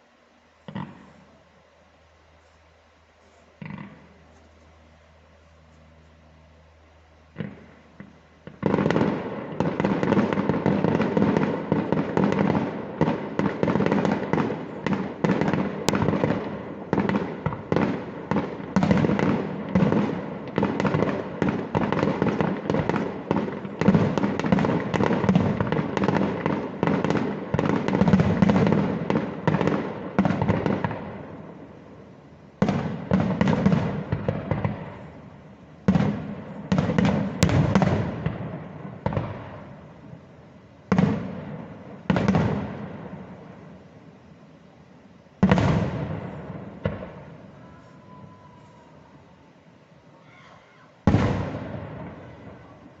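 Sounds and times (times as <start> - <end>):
fireworks bangs and crackling: 0.0 - 1.6, 3.4 - 5.5, 7.2 - 49.4, 51.0 - 53.0.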